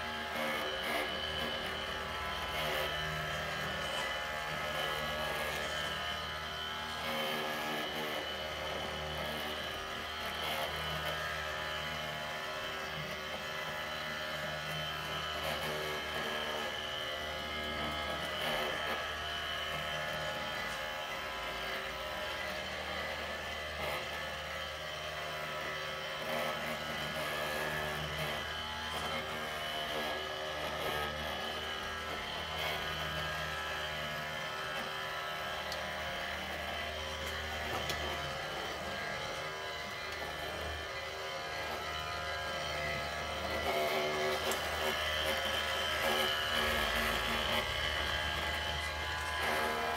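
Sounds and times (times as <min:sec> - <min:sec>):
model machinery motor whine: 0:00.0 - 0:49.9.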